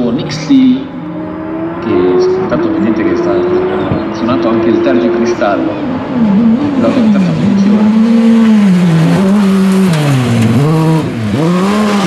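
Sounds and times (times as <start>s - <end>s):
racing car engine revving: 0.0s - 12.0s.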